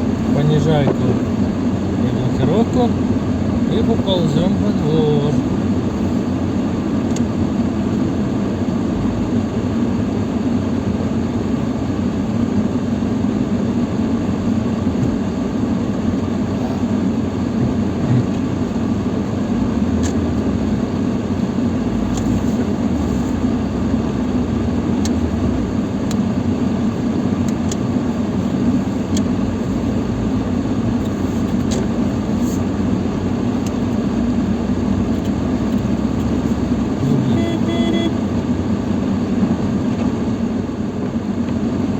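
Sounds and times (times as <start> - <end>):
car engine running under load: 0.0 - 41.9.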